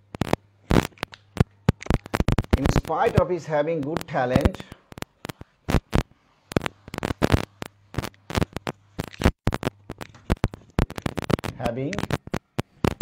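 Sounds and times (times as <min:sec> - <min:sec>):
sharp clicks and scratchy ticks: 0:00.0 - 0:13.0.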